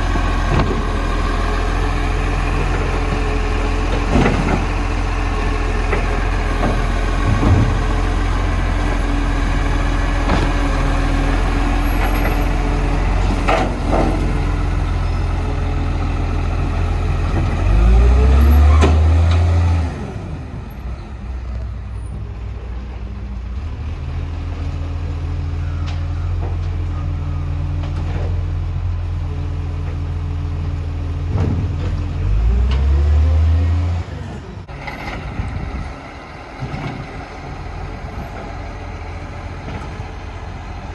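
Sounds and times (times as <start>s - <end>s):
truck diesel engine: 0.0s - 40.9s.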